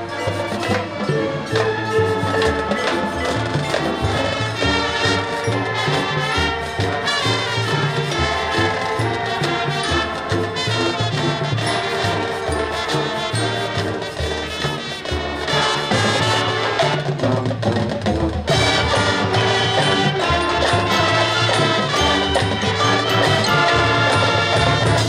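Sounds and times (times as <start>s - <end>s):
marching band brass: 0.0s - 25.0s
percussion: 0.0s - 25.0s.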